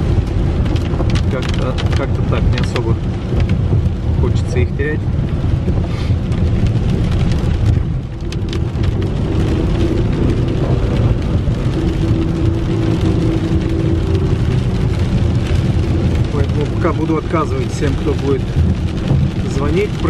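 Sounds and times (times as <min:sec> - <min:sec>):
rain on windshield: 0:00.0 - 0:20.0
tyres and engine rumble: 0:00.0 - 0:20.0.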